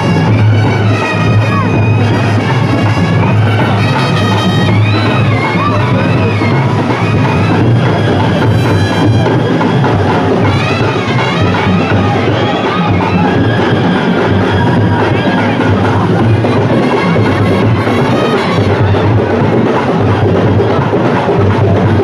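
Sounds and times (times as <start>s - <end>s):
brass band melody: 0.0s - 20.9s
deep bass drum: 0.0s - 22.0s
loud dense drumming: 0.0s - 22.0s.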